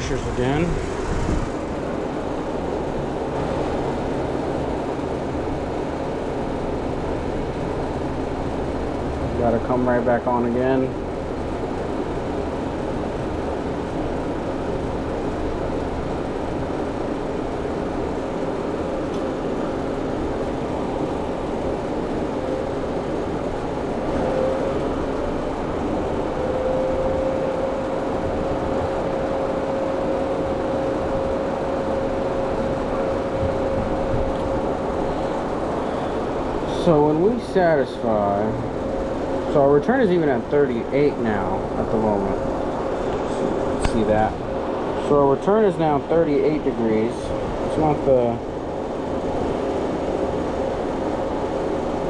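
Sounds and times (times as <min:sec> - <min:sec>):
refrigeration unit humming: 0:00.0 - 0:52.0
steady whine: 0:00.0 - 0:52.0.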